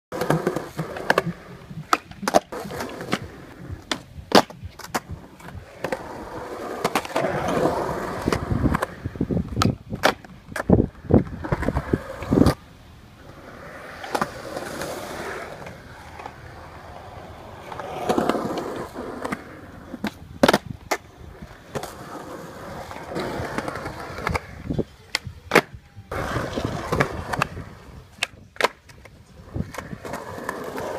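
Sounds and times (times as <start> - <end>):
skateboard clacks: 0.1 - 12.6, 13.6 - 30.9
skateboard wheels rolling: 0.1 - 30.9.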